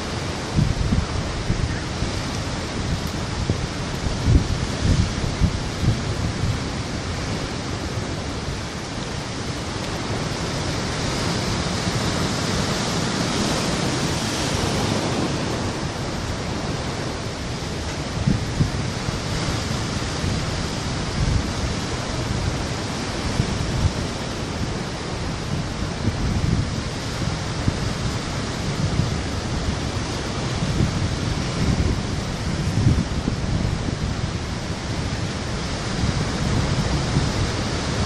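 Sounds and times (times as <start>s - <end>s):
surf breaking over rocks: 0.0s - 38.0s.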